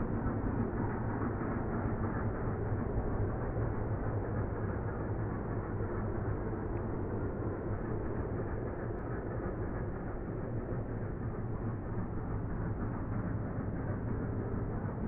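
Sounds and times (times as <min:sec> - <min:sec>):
distant steam locomotive rumble: 0:00.0 - 0:15.0.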